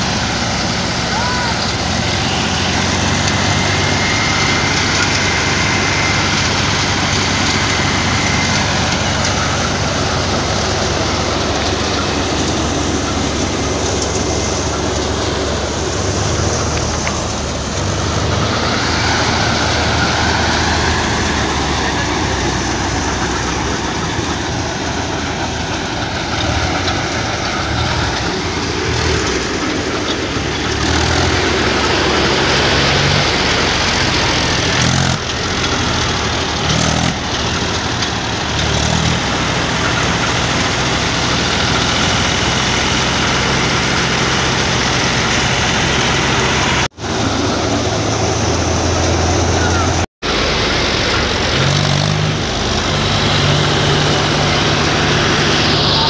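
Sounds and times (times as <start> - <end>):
thresher drum whirring and rattling: 0.0 - 56.0
tractor diesel engine running: 0.0 - 56.0.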